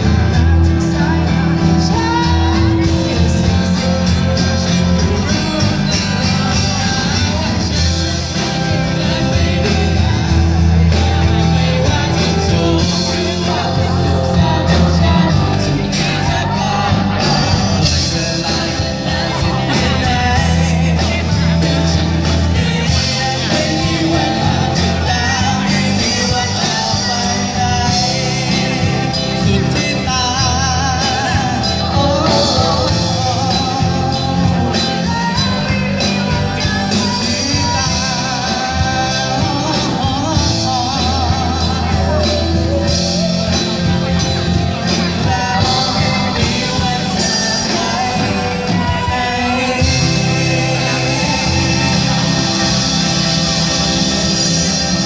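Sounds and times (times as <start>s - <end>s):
bass guitar: 0.0s - 55.0s
drums: 0.0s - 55.0s
electric guitar: 0.0s - 55.0s
man and woman singing: 0.0s - 55.0s.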